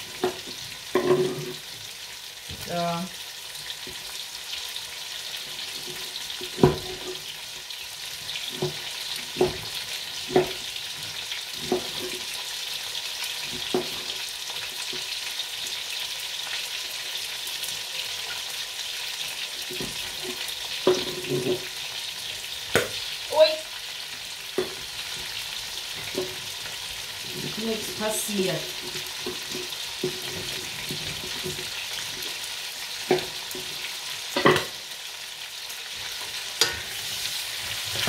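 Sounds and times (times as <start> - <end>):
food frying in a pot: 0.0 - 38.0.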